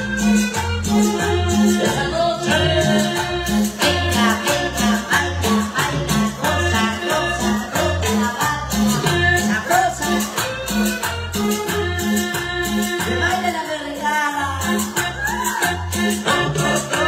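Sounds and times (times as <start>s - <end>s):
person singing: 0.0s - 10.9s, 11.9s - 17.0s
bass beat: 0.0s - 13.6s, 14.4s - 17.0s
loud latin dance music: 0.0s - 17.0s.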